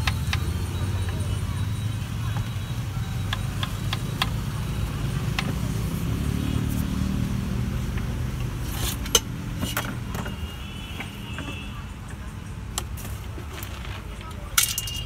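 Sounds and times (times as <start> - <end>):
passing street traffic rumble: 0.0 - 15.0.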